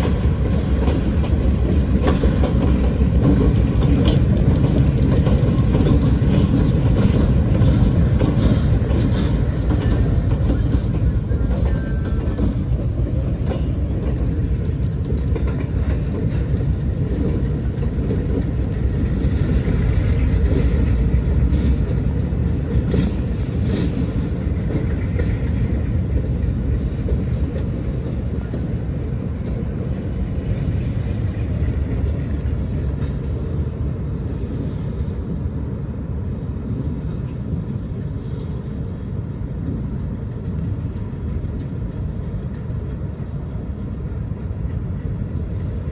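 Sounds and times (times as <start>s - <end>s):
diesel locomotive rumbling: 0.0s - 45.9s.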